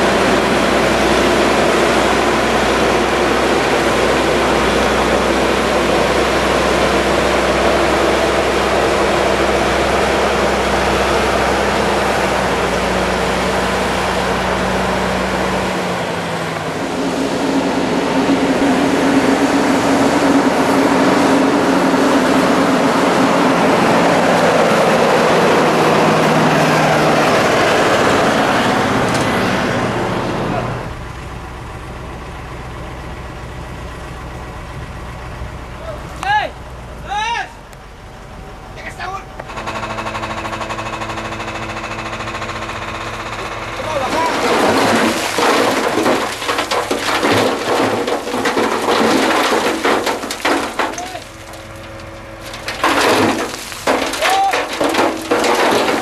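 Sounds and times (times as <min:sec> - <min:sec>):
heavy engine running: 0:00.0 - 0:56.0.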